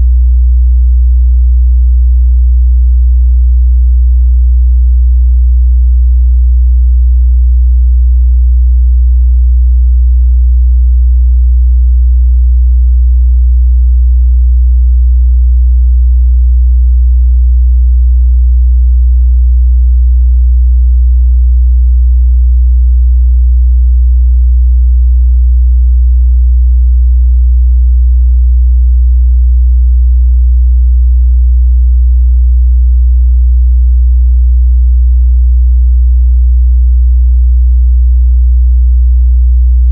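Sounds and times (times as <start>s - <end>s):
low sine-wave test tone: 0.0s - 37.2s, 39.6s - 39.9s.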